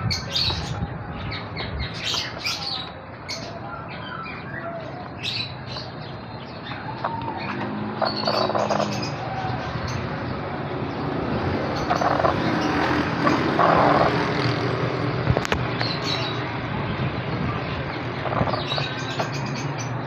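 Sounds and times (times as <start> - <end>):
birds chirping and calling: 0.0 - 20.0
noisy background rumble: 0.0 - 20.0.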